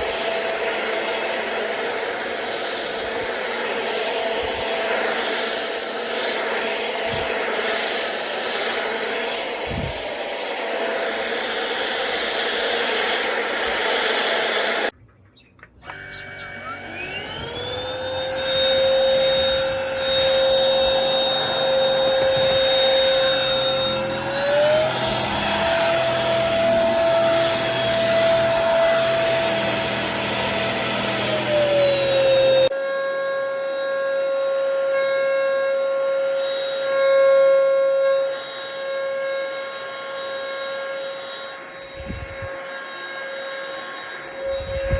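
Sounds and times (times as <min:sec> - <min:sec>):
stick vacuum whining: 0:00.0 - 0:15.0, 0:15.6 - 0:44.9.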